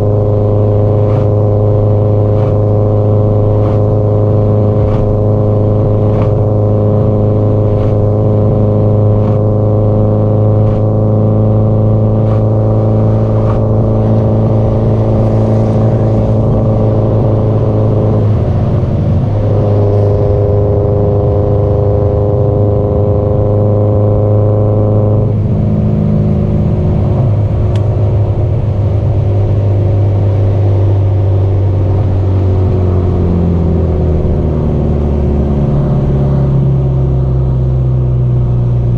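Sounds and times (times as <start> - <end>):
car engine and exhaust cruising: 0.0 - 38.9.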